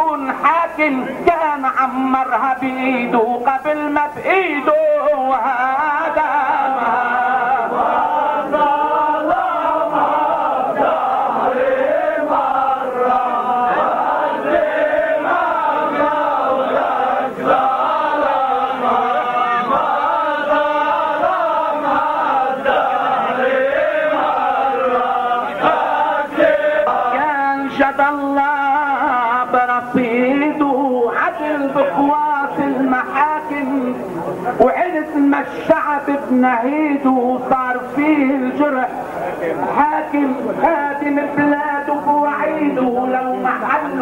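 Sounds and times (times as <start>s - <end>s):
men chanting in unison: 0.0s - 38.8s, 39.6s - 44.0s.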